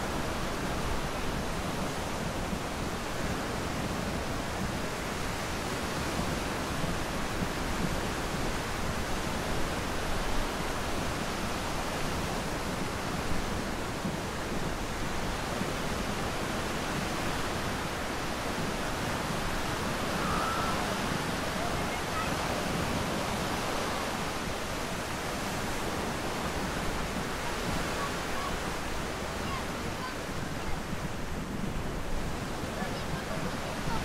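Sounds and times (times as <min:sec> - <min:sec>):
small waves breaking on sand: 0:00.0 - 0:34.0
wind on microphone: 0:00.0 - 0:34.0.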